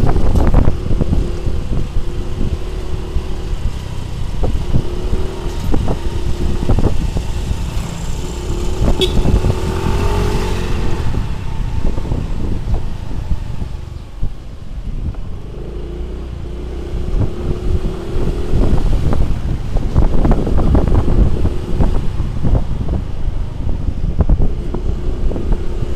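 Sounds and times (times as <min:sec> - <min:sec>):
wind buffeting on microphone: 0:00.0 - 0:25.9.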